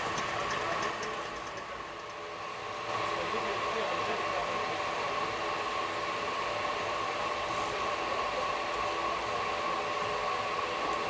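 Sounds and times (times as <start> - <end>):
passenger train running: 0.0 - 11.0.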